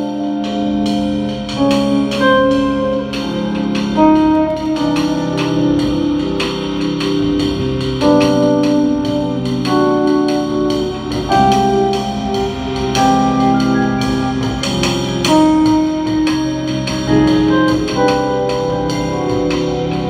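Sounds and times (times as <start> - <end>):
electric bass: 0.0 - 20.0
electric guitar: 0.0 - 20.0
electric keyboard chords: 0.0 - 20.0
light drums: 0.0 - 20.0.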